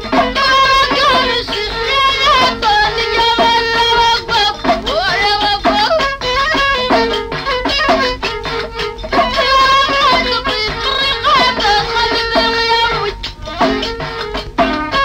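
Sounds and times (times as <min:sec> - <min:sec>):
hand drum beats: 0:00.0 - 0:15.0
violin melody with sliding notes: 0:00.0 - 0:15.0.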